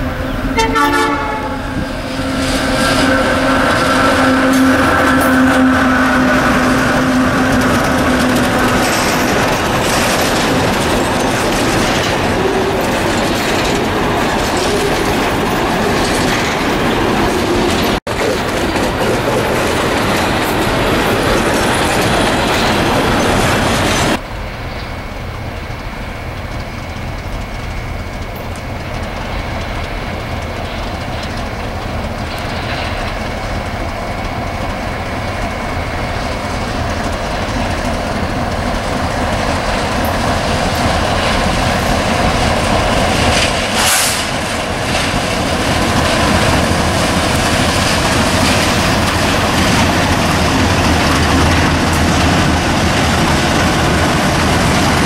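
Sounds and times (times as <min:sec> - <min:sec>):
distant freight train rumble: 0:00.0 - 0:55.0
freight train rolling past: 0:00.0 - 0:55.0
wheels clicking over rails: 0:02.1 - 0:24.2, 0:25.7 - 0:55.0.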